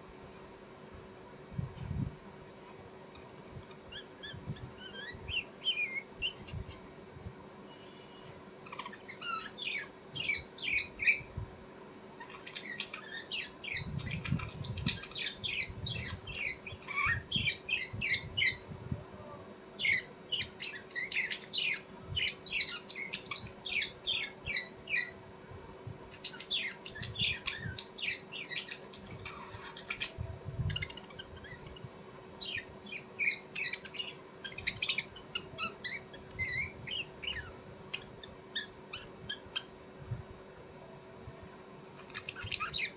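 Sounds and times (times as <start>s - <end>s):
birds chirping and squawking: 3.1s - 7.0s, 7.8s - 11.4s, 12.1s - 18.8s, 19.8s - 25.2s, 26.1s - 39.9s, 41.9s - 42.9s.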